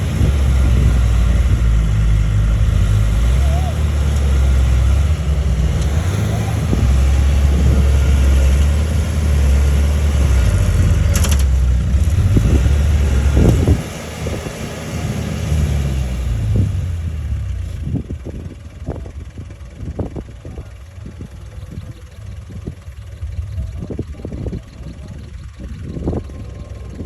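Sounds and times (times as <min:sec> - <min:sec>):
bulldozer diesel engine droning: 0:00.0 - 0:27.0.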